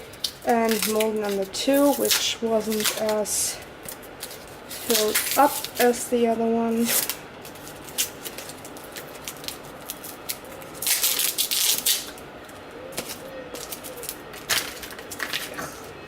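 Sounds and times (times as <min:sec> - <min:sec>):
scraping rustle: 0:00.0 - 0:16.0.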